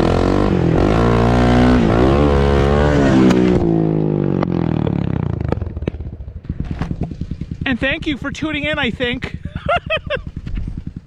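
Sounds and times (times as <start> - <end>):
vehicle engine revving and idling: 0.0 - 9.3.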